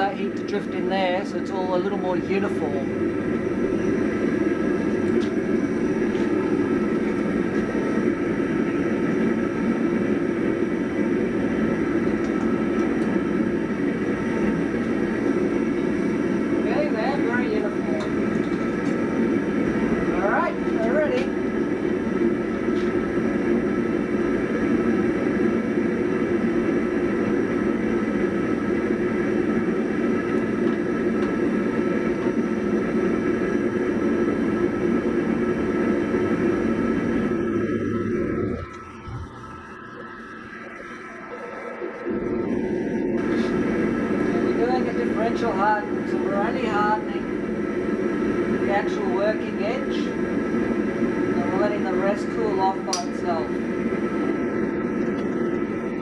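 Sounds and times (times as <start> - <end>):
forge rushing noise: 0.0 - 56.0.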